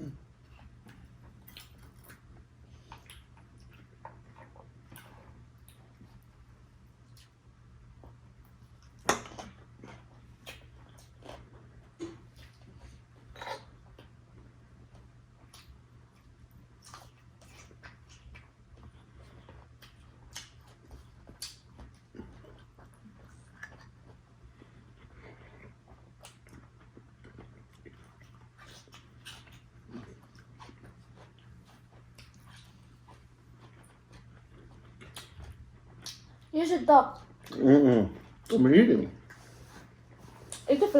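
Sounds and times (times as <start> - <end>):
chewing: 0.1 - 36.5, 39.2 - 40.9.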